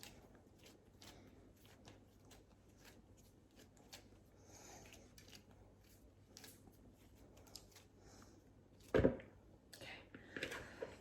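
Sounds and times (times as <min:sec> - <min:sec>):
hands kneading dough: 0:00.0 - 0:09.5.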